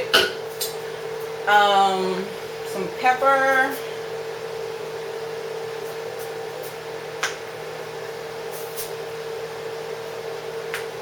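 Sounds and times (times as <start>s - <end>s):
range hood fan humming: 0.0s - 11.0s.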